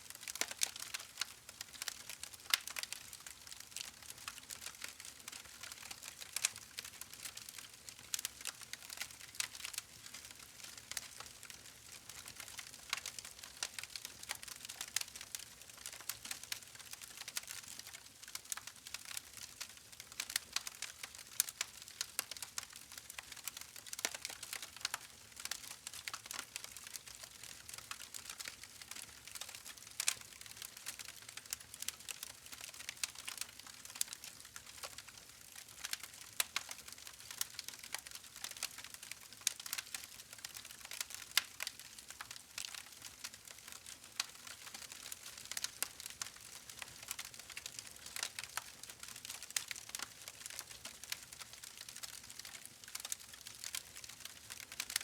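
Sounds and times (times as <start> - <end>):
campfire crackling and popping: 0.2 - 55.0.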